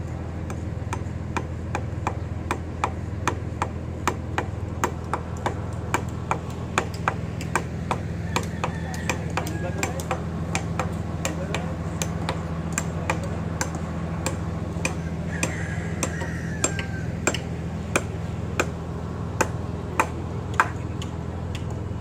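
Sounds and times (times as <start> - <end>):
diesel engine running: 0.0 - 22.0
sharp irregular knocks: 0.5 - 18.8, 19.4 - 21.7.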